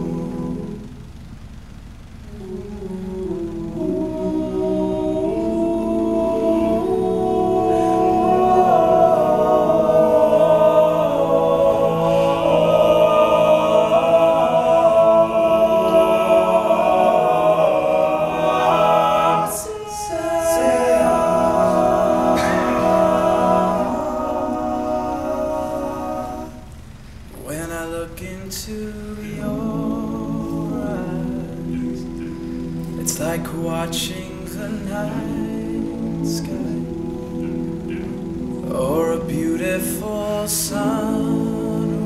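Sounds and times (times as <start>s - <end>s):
male a cappella group singing: 0.0s - 1.3s, 2.3s - 42.0s.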